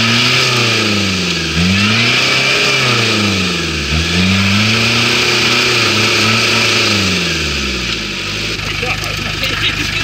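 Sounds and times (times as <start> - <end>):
diesel engine revving hard: 0.0 - 10.0.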